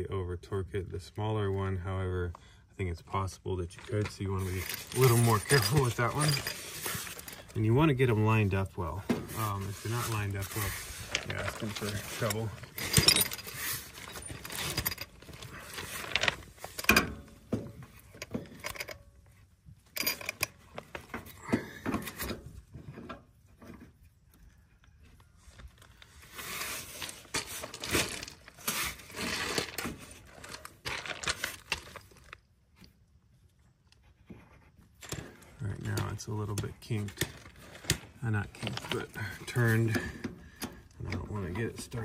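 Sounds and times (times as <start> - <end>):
scraping and rustling of insulated line: 3.7 - 42.0.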